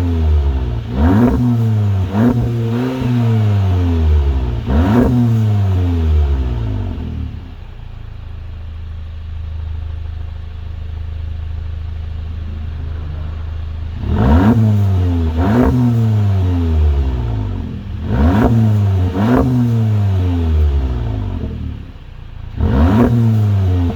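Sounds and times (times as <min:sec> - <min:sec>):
car engine idling: 0:00.0 - 0:23.9
engine throttle blips: 0:00.0 - 0:23.9.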